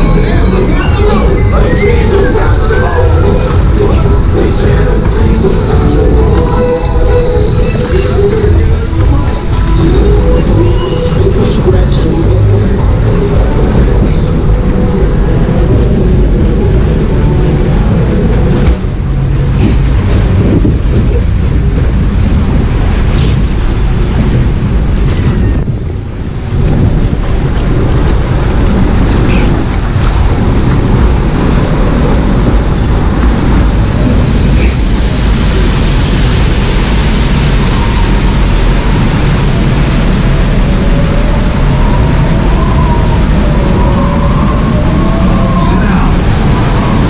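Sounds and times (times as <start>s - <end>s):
rushing water: 0.0s - 47.0s
wind rumble on microphone: 0.0s - 47.0s.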